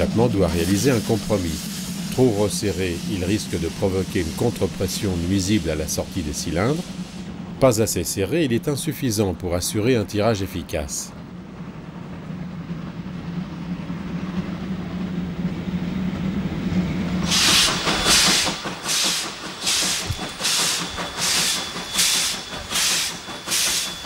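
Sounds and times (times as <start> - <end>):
steam locomotive chuffing: 0.0 - 24.0.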